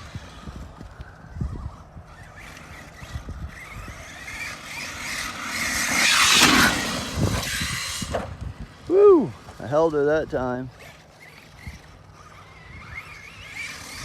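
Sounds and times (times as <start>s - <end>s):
rc truck motor and tires: 0.0s - 14.0s.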